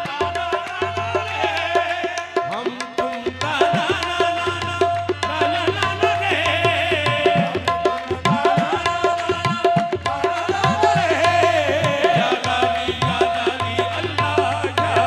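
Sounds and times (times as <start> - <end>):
harmonium melody: 0.0 - 15.0
tabla beat: 0.0 - 15.0.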